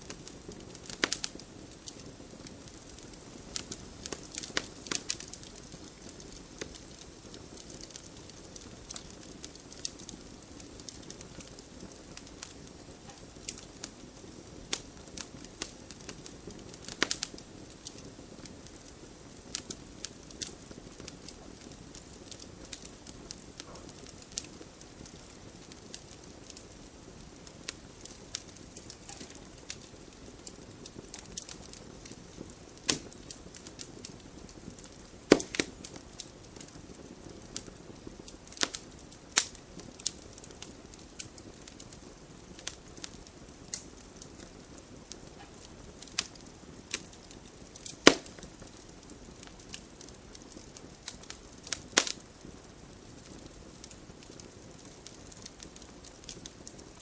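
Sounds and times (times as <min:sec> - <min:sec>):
soft steady hiss: 0:00.0 - 0:57.0
wood fire crackling and popping: 0:00.0 - 0:57.0.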